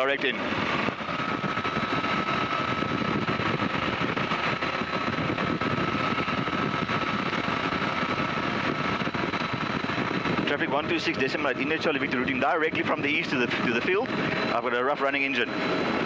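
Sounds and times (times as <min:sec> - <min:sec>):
aircraft engine running rough: 0:00.0 - 0:16.0.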